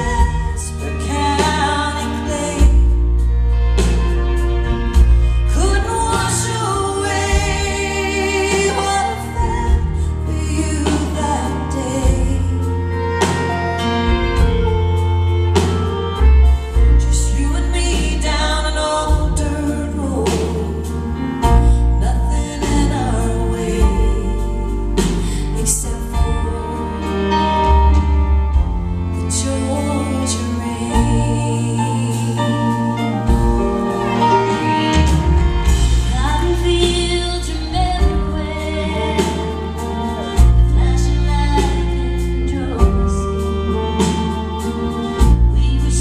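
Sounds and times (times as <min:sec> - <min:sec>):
live country band: 0:00.0 - 0:46.0
woman singing: 0:00.0 - 0:46.0.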